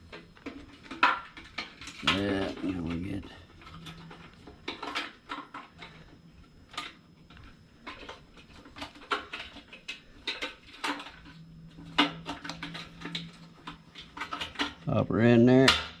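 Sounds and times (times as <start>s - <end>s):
clicks and clatter of plastic and metal: 0.0s - 14.9s.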